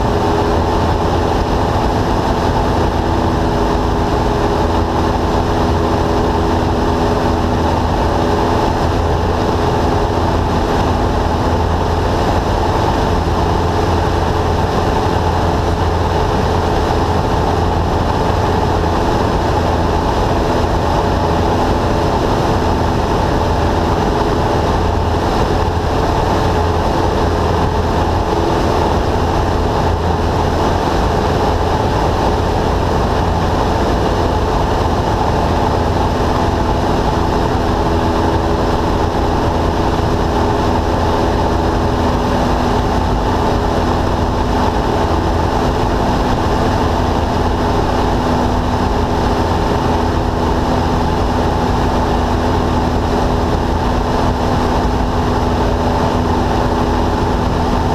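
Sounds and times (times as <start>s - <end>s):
light aircraft engine in flight: 0.0s - 57.9s.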